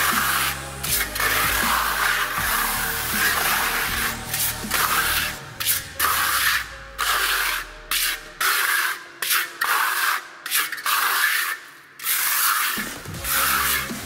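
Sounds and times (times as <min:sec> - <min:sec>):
steel trowel scraping floor: 0:00.0 - 0:14.0.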